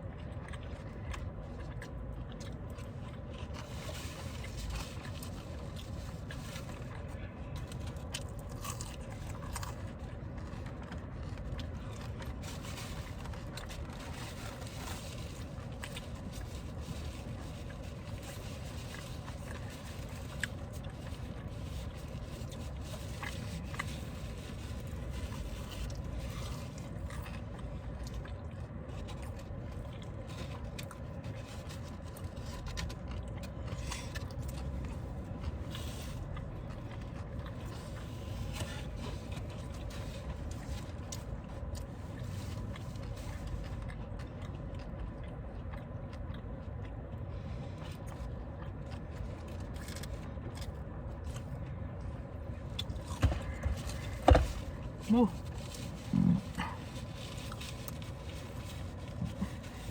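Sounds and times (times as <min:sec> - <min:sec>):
low background rumble: 0:00.0 - 0:59.9
people chewing food: 0:00.0 - 0:59.9.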